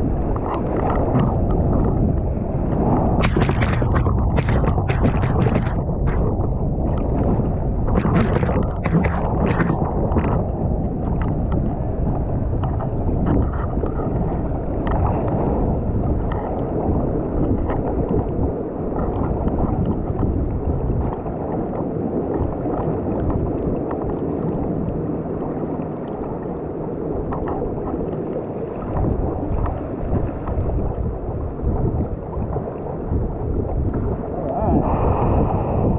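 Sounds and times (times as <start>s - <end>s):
wind buffeting camera: 0.0s - 25.1s, 26.2s - 35.9s
rushing water: 0.0s - 35.9s.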